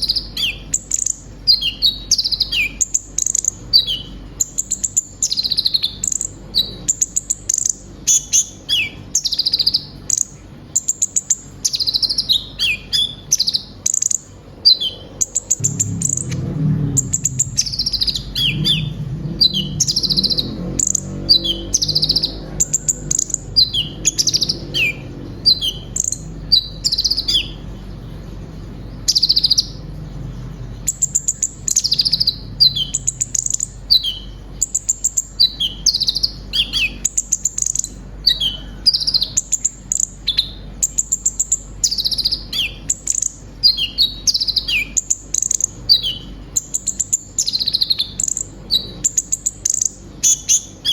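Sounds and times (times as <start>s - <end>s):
sunbird singing high chirps: 0.0s - 30.1s, 30.8s - 50.9s.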